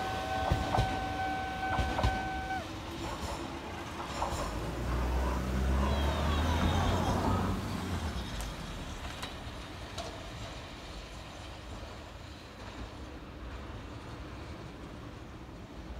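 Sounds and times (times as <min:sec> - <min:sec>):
electric train rumble and whine: 0:00.0 - 0:15.9.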